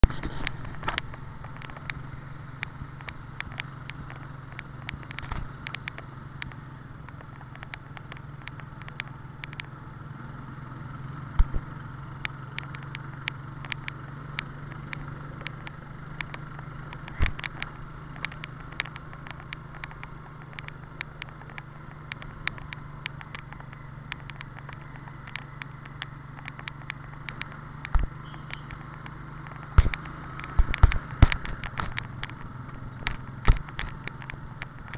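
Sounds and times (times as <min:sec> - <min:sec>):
sharp clicks and knocks: 0:00.0 - 0:09.8, 0:11.3 - 0:34.9
engine and road hum: 0:00.0 - 0:34.9.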